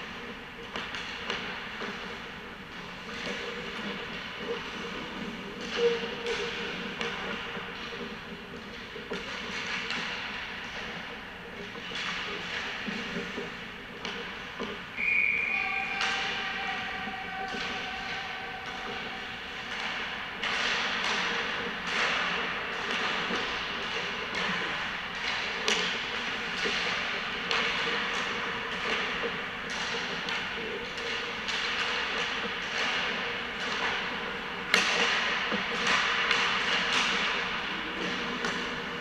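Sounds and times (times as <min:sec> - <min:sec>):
hockey sticks and pucks clacking: 0:00.0 - 0:39.0.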